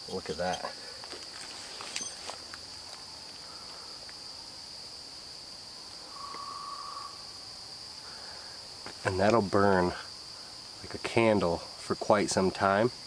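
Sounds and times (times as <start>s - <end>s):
faint steady tone: 0.0s - 13.0s
high-pitched insect chorus: 0.0s - 13.0s.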